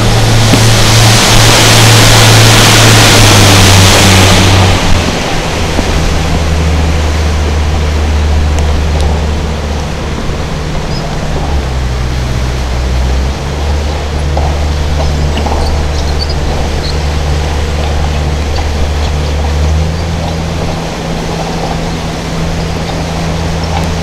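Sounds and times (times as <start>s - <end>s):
boat engine running: 0.0s - 24.0s
rushing hiss of water: 0.0s - 24.0s.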